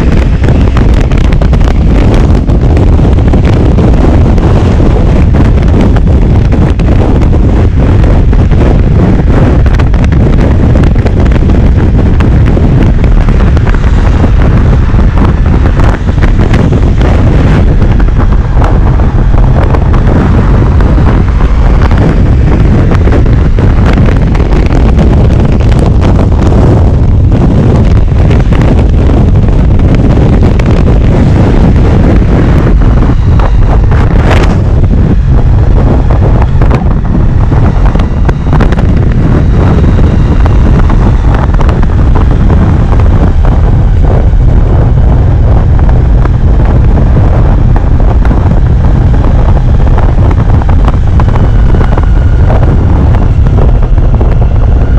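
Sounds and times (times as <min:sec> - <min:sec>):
motorcycle riding: 0:00.0 - 0:54.9
wind buffeting microphone: 0:00.0 - 0:54.9.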